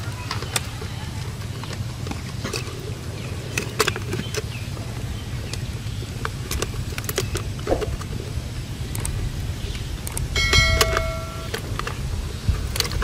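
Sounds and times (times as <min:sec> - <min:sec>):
steady low rumble: 0:01.0 - 0:13.0.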